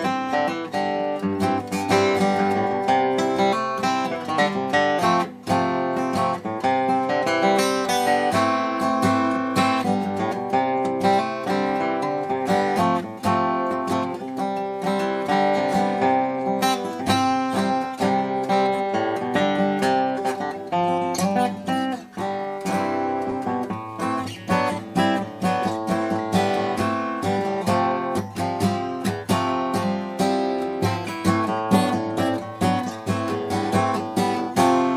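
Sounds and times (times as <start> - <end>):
acoustic guitar picking: 0.0 - 34.9.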